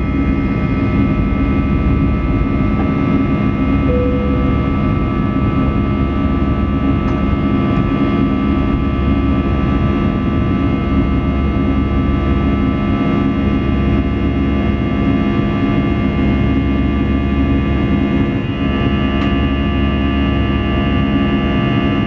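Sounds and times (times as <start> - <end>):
airplane cabin engine hum: 0.0 - 22.0.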